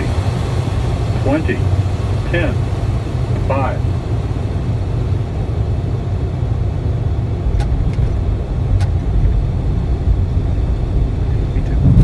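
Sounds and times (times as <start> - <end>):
jet cockpit low rumble: 0.0 - 12.0.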